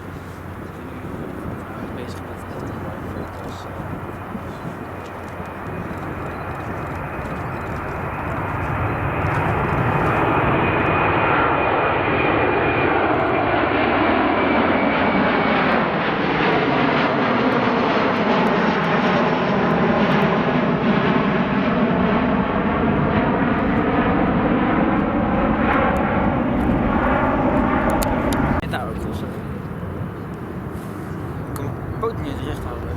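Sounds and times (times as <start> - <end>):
jet engines roaring: 0.0 - 32.9.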